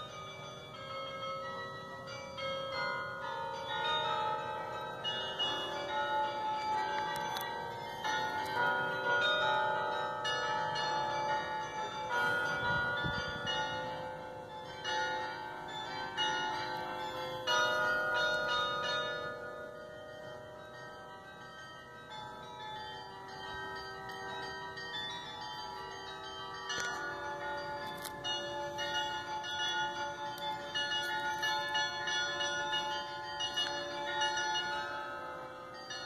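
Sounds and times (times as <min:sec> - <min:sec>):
carillon bells playing a tune: 0:00.0 - 0:36.0.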